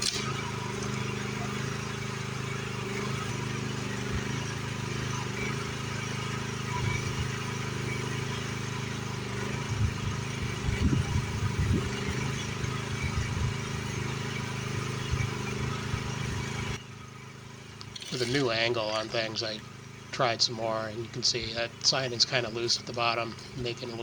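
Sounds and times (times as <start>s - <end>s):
excavator engine running: 0.0s - 24.0s.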